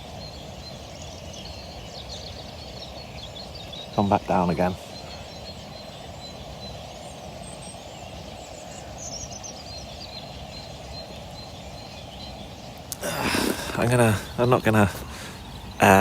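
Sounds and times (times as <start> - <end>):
faint bird chirps: 0.0 - 16.0
river background noise: 0.0 - 16.0.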